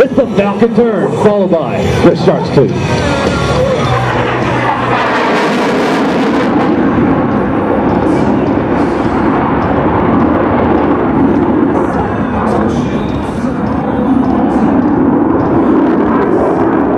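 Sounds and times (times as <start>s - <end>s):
jet engine roaring: 0.0s - 16.9s.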